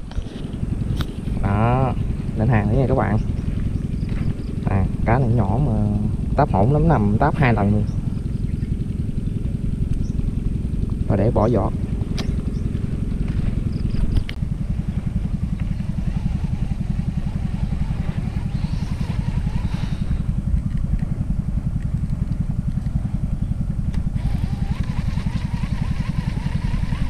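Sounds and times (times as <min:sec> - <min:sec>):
small engine chugging: 0:00.0 - 0:27.0.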